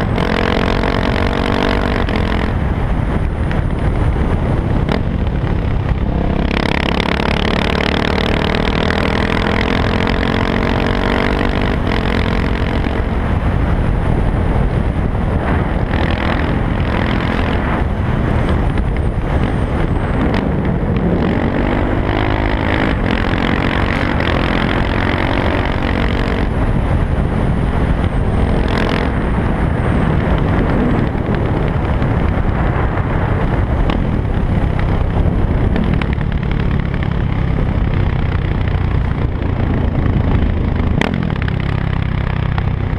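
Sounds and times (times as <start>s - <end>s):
motorcycle engine running loud: 0.0s - 42.9s.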